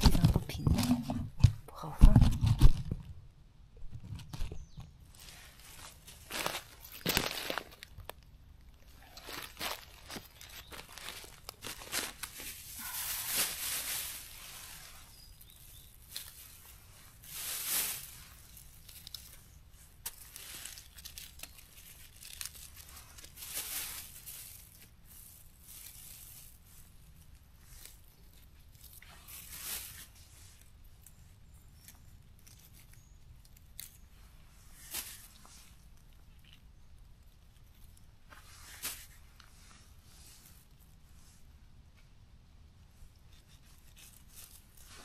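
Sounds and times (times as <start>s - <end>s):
rustling of dry leaves: 4.2s - 41.5s, 42.9s - 45.0s.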